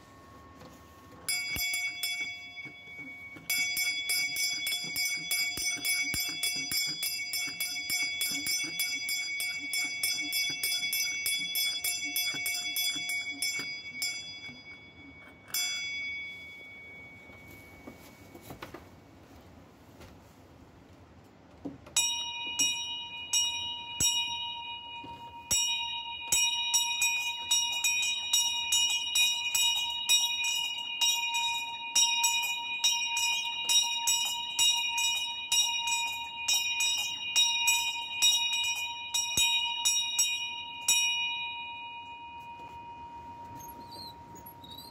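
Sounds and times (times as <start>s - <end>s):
small high-pitched bells struck: 0.0s - 18.6s, 21.9s - 44.9s.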